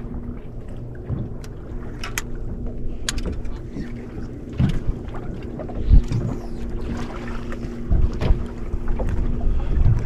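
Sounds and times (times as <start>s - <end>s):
boat engine low hum: 0.0s - 10.0s.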